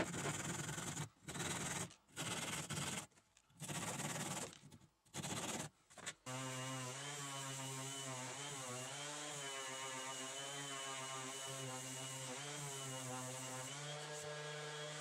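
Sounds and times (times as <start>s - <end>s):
handsaw sawing wood: 0.0s - 15.0s.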